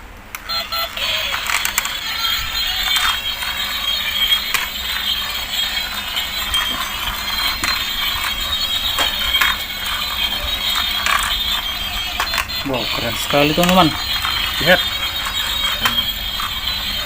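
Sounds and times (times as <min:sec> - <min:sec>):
toy motor whirring: 0:00.4 - 0:17.0.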